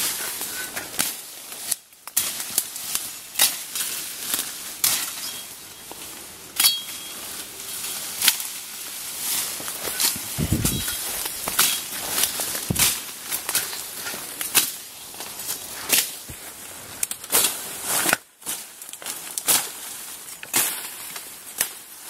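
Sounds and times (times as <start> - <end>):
dry canes snapping underfoot: 0.0 - 22.0
leaves and stems rustling: 0.0 - 22.0.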